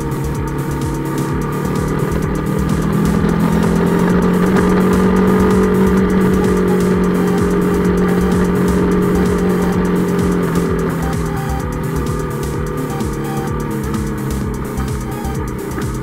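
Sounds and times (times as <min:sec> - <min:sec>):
motorcycle engine pulling: 0:00.0 - 0:16.0
wind and road rumble: 0:00.0 - 0:16.0.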